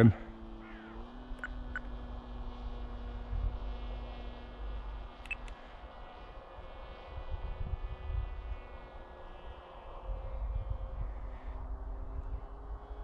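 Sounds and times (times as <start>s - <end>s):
electric motor and propeller droning: 0.0s - 13.0s.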